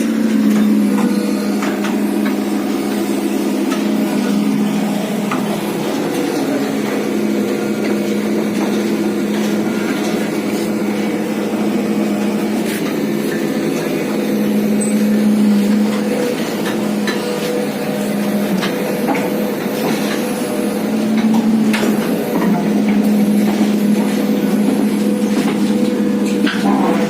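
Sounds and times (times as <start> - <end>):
excavator engine humming: 0.0 - 27.0.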